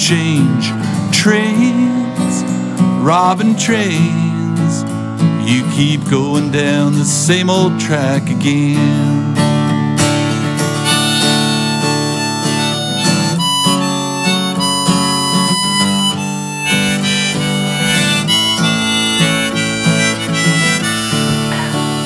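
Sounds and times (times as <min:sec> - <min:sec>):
acoustic guitar strumming: 0:00.0 - 0:22.0
harmonica melody: 0:00.0 - 0:22.0.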